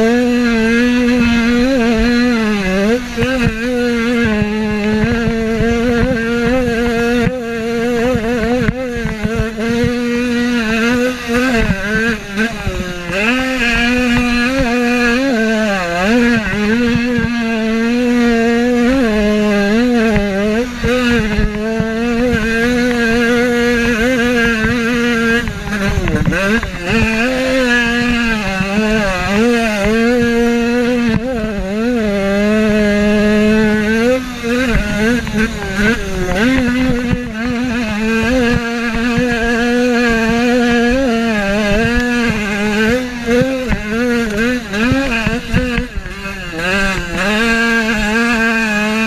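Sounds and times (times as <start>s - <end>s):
motocross bike engine revving: 0.0s - 49.0s.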